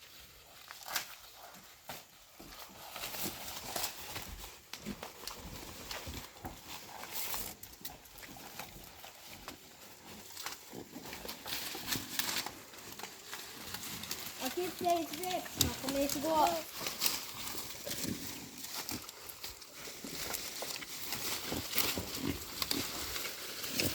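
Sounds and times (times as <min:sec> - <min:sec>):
pigs crunching and chewing: 0:00.0 - 0:23.9
stalks and leaves rustling: 0:00.0 - 0:23.9.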